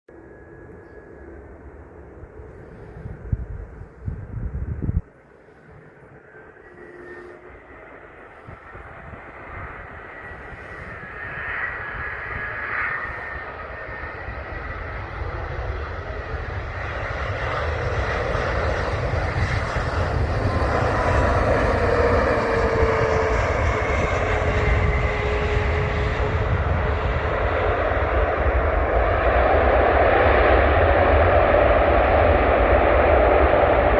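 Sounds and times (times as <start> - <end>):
jet engine noise: 0.1 - 33.9
jet engine whine: 0.1 - 33.9.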